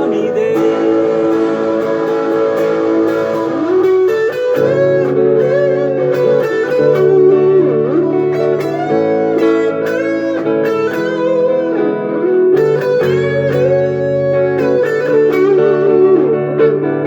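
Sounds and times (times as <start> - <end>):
sustained chords: 0.0 - 16.6
lead guitar melody: 0.0 - 17.0.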